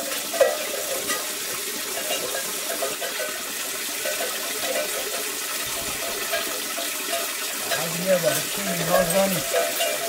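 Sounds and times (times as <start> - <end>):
calf slurping water: 1.5 - 10.0.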